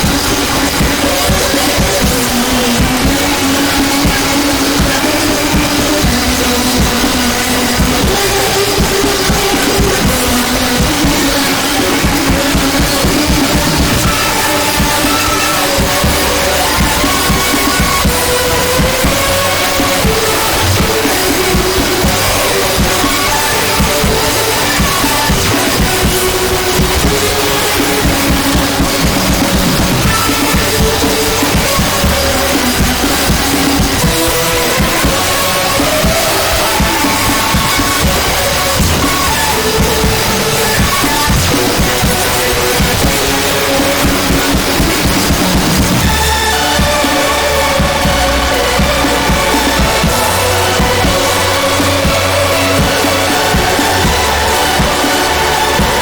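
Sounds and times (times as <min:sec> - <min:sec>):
distorted noise: 0:00.0 - 0:56.0
drum thumps: 0:00.0 - 0:56.0.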